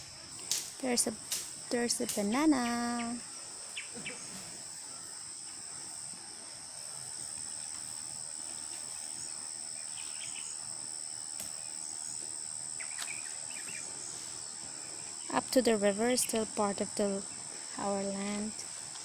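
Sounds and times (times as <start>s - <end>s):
insects droning shrilly: 0.0s - 19.0s.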